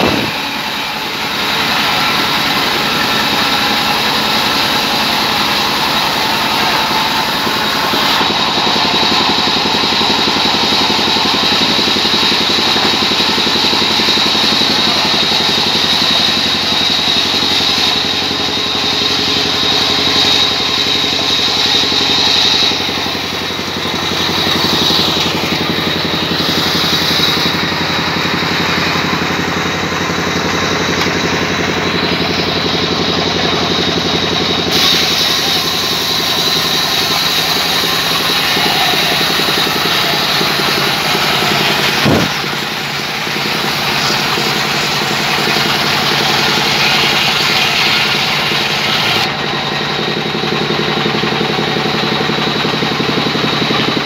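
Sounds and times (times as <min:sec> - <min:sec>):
band saw whine cutting log: 0:00.0 - 0:54.0.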